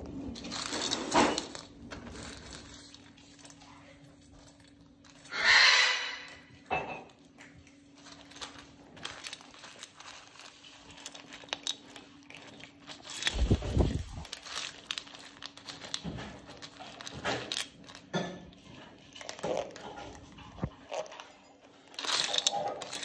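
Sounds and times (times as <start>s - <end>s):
birds crunching kibble in steel bowl: 0.0s - 23.0s.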